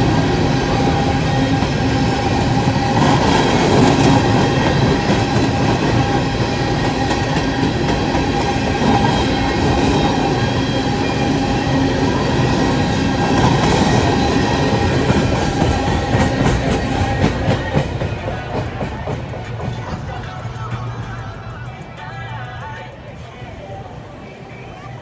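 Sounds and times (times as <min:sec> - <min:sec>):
freight train wheels rumbling on rails: 0:00.0 - 0:25.0.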